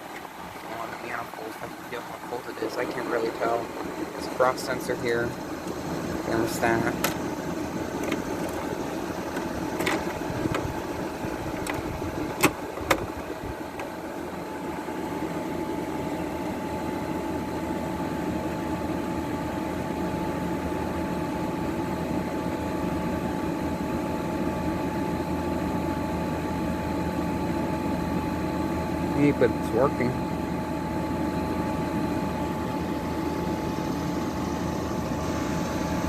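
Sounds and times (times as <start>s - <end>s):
air conditioner fan blowing: 0.0s - 36.0s
compressor humming with a whine: 0.0s - 36.0s.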